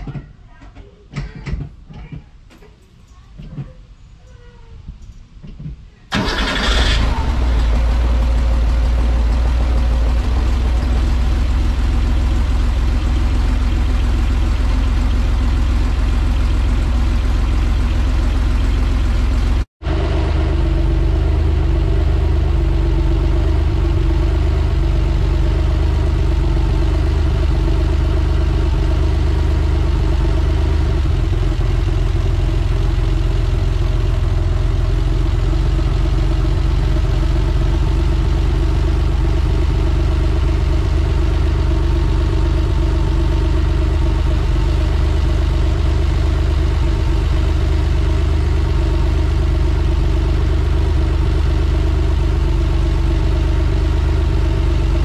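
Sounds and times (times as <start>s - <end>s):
car engine starting and idling: 6.1s - 55.0s.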